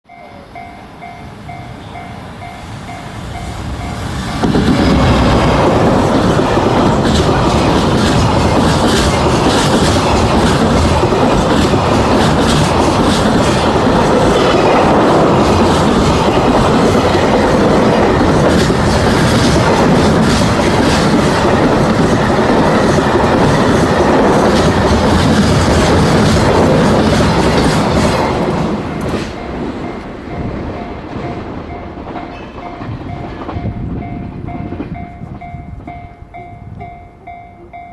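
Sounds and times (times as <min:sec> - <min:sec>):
freight train wheels clattering: 0:00.6 - 0:37.9.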